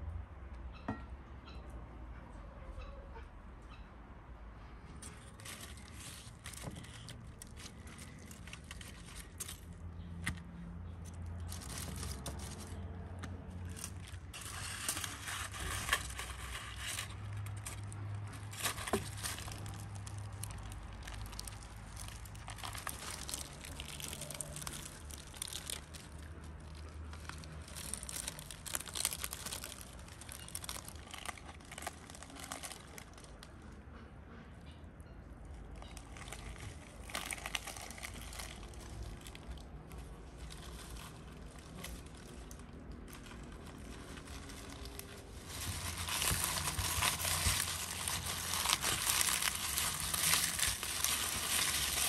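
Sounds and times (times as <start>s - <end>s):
tearing and squishing fish flesh: 4.9s - 33.6s, 35.7s - 52.0s
aluminium foil crinkling: 5.0s - 33.6s, 35.8s - 52.0s.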